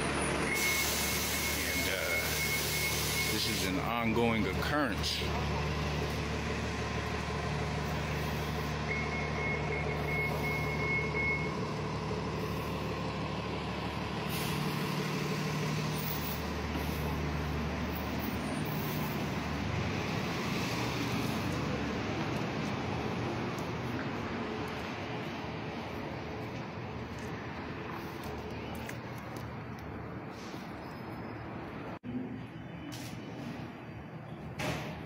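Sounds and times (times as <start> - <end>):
heavy vehicle engine droning: 0.0 - 35.0.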